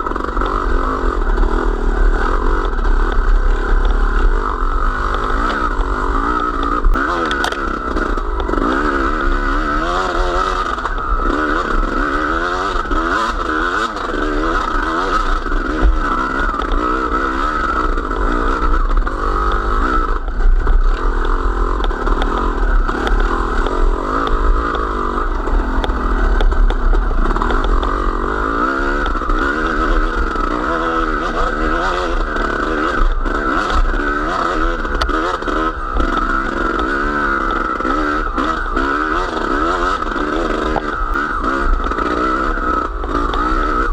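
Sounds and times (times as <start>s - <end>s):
small engine being throttled: 0.0s - 43.9s.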